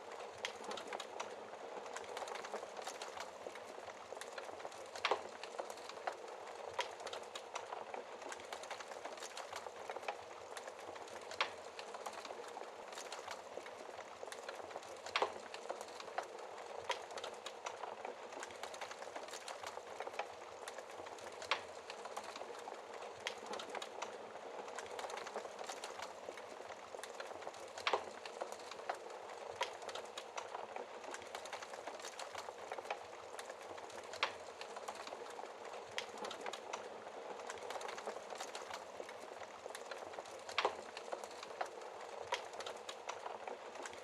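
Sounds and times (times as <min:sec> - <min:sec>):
loud fire snaps: 0:00.0 - 0:44.0
wood fire crackling: 0:00.0 - 0:44.0.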